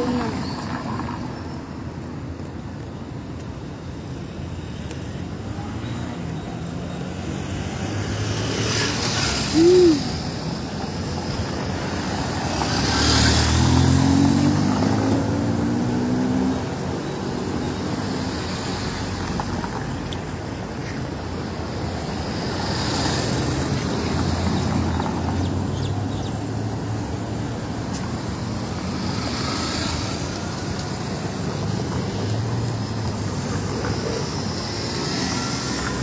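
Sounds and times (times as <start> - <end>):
cars passing close by: 0.0 - 36.0.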